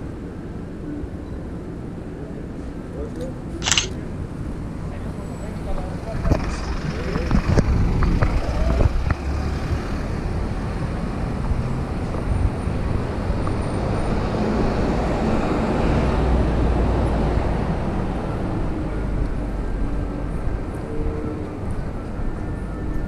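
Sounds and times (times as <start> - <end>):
cars and bus passing: 0.0 - 23.0.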